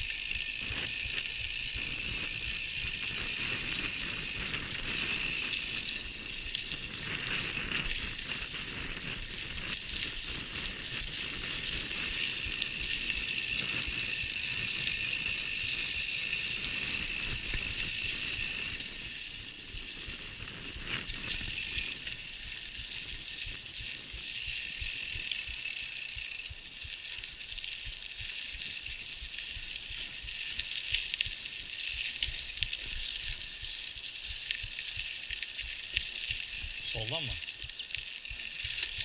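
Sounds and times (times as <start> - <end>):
bike tyres rumbling on dirt: 0.0 - 35.2
bike freehub clicking: 0.0 - 39.0.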